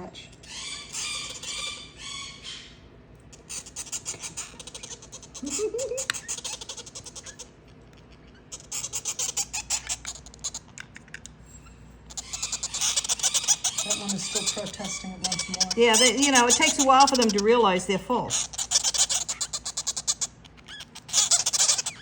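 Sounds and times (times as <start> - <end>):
parrot chicks begging squeaks: 0.0 - 22.0.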